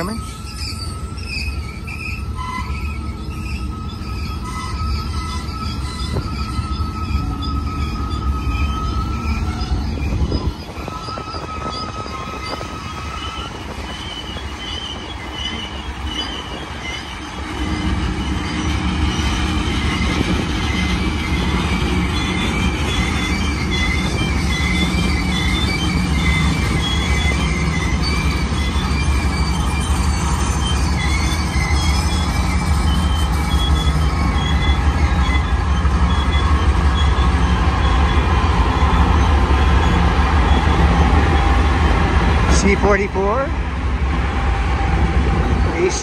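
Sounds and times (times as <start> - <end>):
diesel locomotive rumble: 0.0 - 46.0
train wheels squealing on rails: 0.0 - 46.0.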